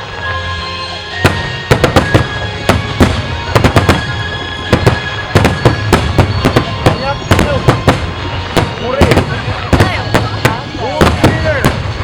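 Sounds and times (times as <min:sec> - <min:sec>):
fireworks bursting with sharp bangs: 0:00.0 - 0:12.0
music playing: 0:00.0 - 0:12.0.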